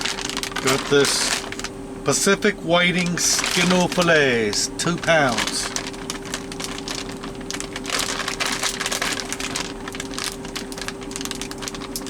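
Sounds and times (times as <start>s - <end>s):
plastic packaging crinkling: 0.0s - 1.8s, 2.8s - 12.0s
steady hum: 0.0s - 12.0s.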